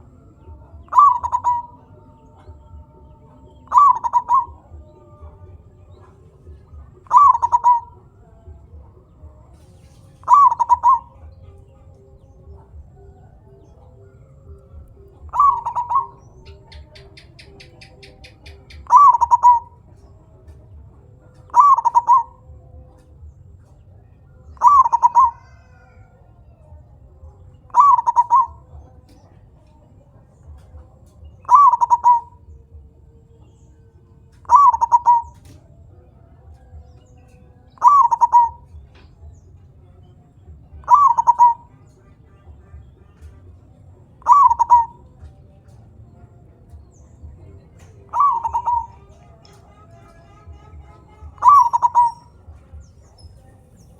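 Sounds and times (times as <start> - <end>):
dove cooing: 0.0 - 29.6, 30.2 - 33.1, 33.8 - 39.9, 40.5 - 53.9.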